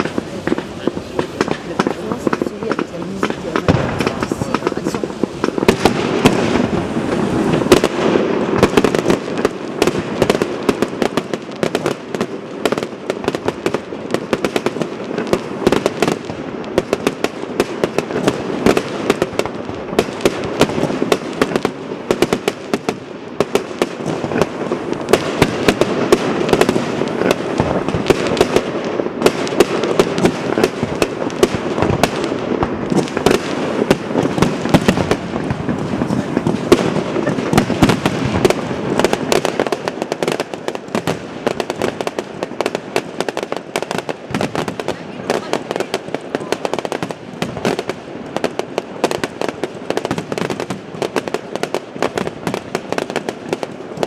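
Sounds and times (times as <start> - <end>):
firework shells bursting: 0.0 - 12.3, 12.9 - 54.0
fireworks crackling: 0.0 - 54.0.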